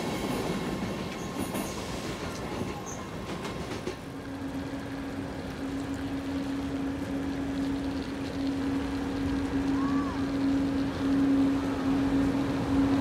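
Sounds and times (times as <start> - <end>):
electric locomotive hum: 0.0 - 13.0.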